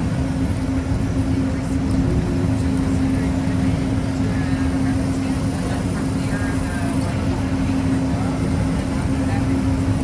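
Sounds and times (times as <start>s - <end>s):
monorail train rumble: 0.0s - 10.0s.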